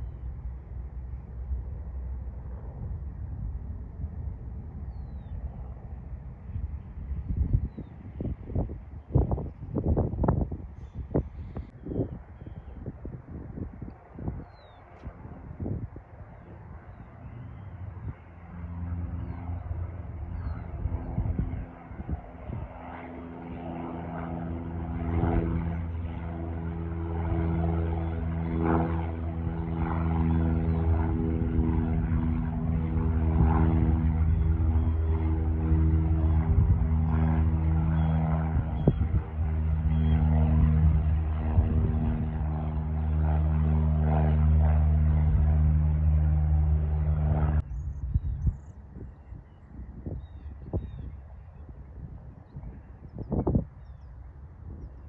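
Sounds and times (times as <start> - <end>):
propeller airplane engine: 0.0 - 55.0.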